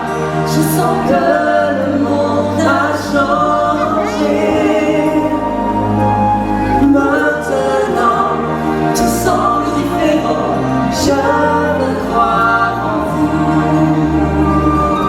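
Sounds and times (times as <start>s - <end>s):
choral singing: 0.0s - 15.0s
sustained bass notes: 0.0s - 15.0s.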